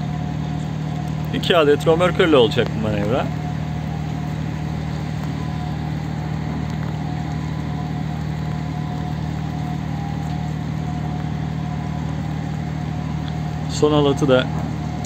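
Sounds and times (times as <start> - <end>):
diesel machinery low hum: 0.0 - 15.0.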